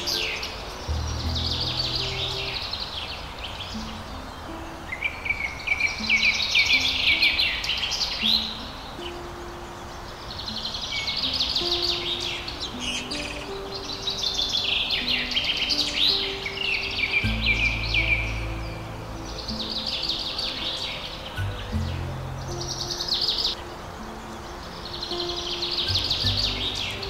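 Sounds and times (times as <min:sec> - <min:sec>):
soft instrumental music: 0:00.0 - 0:27.0
songbirds chirping: 0:00.0 - 0:27.0.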